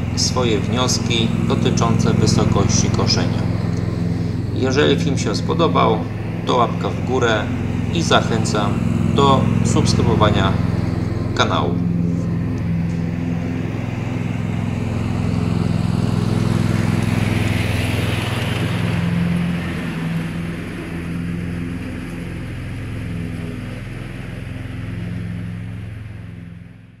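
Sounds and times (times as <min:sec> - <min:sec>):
ride-on mower engine running: 0:00.0 - 0:27.0.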